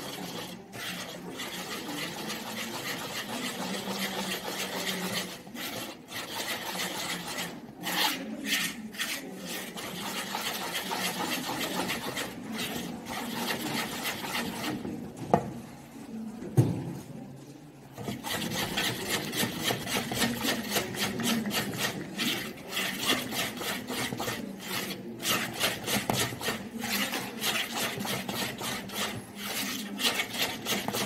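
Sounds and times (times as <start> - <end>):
whisk scraping in plastic bowl: 0.0 - 16.1, 17.9 - 31.0.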